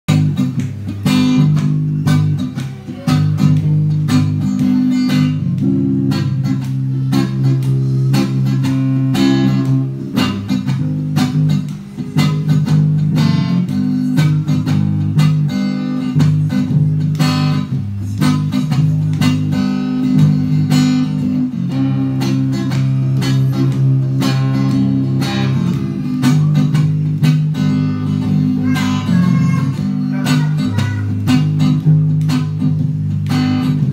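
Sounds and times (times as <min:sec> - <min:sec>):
acoustic guitar strumming: 0:00.1 - 0:33.9
bass guitar line: 0:00.1 - 0:33.9.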